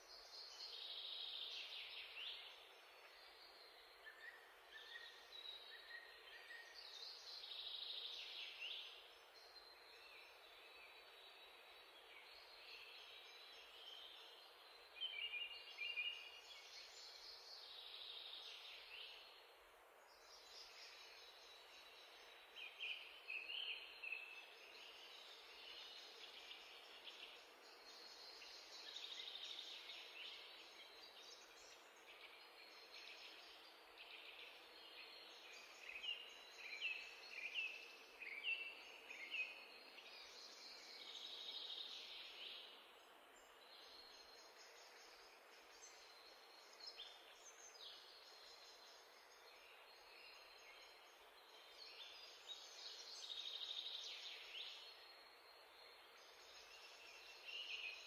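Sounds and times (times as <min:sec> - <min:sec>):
faint birdsong chirps: 0:00.0 - 0:58.0.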